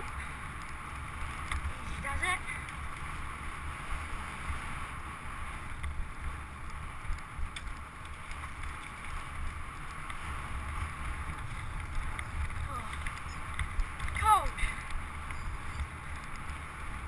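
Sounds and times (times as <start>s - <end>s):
bike tyres and frame rattling: 0.0s - 17.0s.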